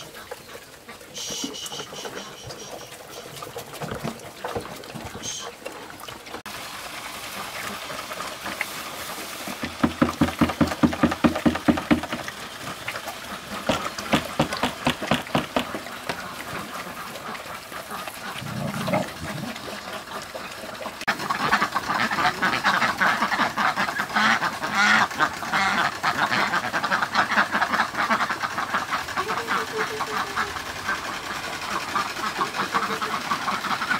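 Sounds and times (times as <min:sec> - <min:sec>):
ducks quacking: 0:00.0 - 0:06.0, 0:10.8 - 0:33.9.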